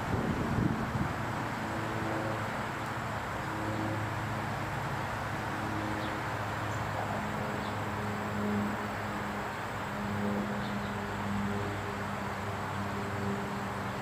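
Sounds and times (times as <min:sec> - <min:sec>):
propeller plane droning overhead: 0:00.0 - 0:14.0.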